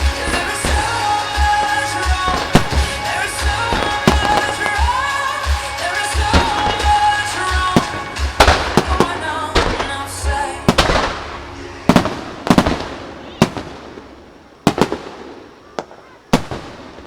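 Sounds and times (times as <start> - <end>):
show music: 0.0 - 14.6
fireworks bursting: 0.0 - 17.0.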